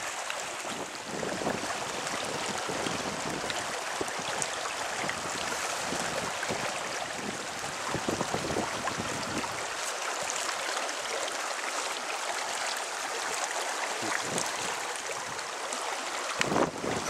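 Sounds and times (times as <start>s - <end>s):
creek running over riffles: 0.0s - 17.0s.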